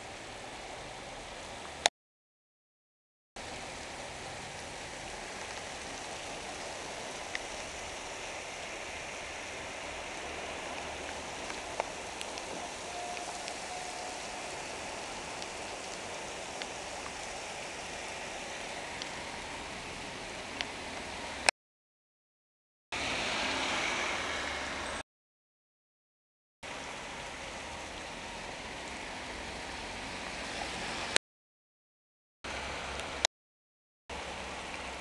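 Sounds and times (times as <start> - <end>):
heavy rain on a street: 0.0 - 1.9, 3.4 - 21.5, 23.0 - 25.0, 26.7 - 31.2, 32.5 - 33.3, 34.1 - 35.0.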